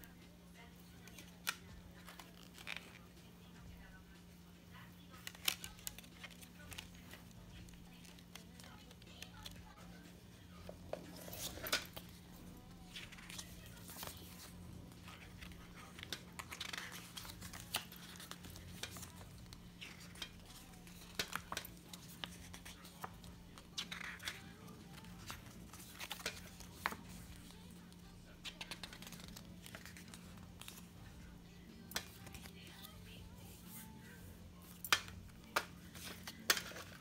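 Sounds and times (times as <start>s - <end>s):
paper pages rustling: 1.0s - 3.2s, 5.1s - 10.0s, 10.6s - 31.3s, 31.9s - 37.0s.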